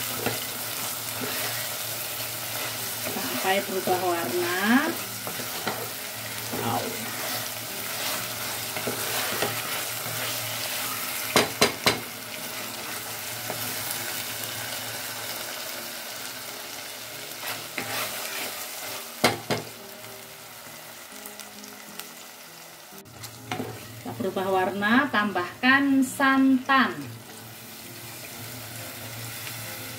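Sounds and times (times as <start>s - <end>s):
meat sizzling in a pot: 0.0s - 29.9s.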